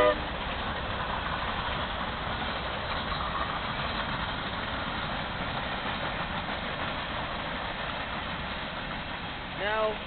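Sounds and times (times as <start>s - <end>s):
distant freight train rolling: 0.0s - 10.0s.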